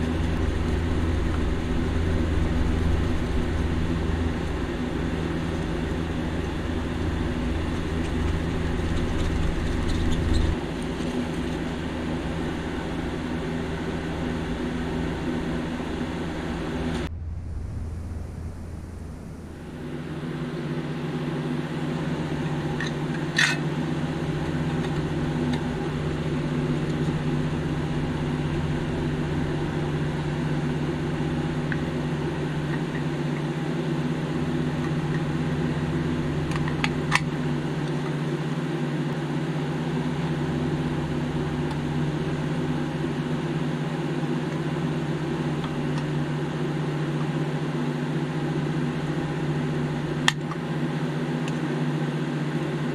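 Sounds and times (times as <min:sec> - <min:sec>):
mechanical hum: 0:00.0 - 0:52.9.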